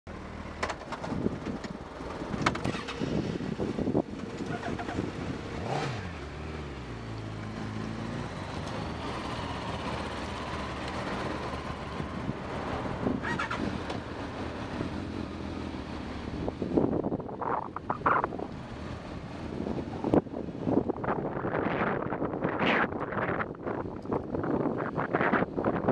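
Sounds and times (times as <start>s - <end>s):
motorcycle engines idling and revving: 0.1s - 25.9s.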